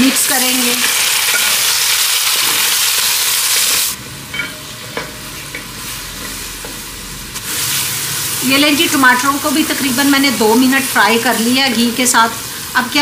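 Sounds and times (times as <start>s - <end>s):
vegetables sizzling in hot fat: 0.0s - 13.0s.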